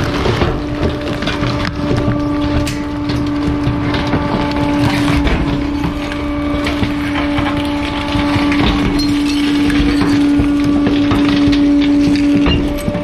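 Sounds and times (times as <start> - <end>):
wood cracking and splintering: 0.0 - 13.0.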